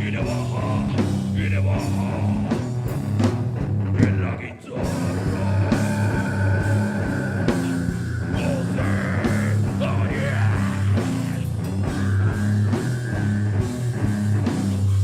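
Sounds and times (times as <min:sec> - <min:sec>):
bass guitar: 0:00.0 - 0:15.0
distorted guitars: 0:00.0 - 0:15.0.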